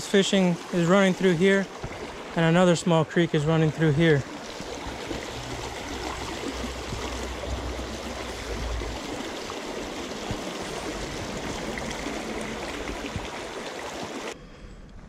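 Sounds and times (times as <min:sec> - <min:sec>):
creek water running over rocks: 0:00.0 - 0:14.4.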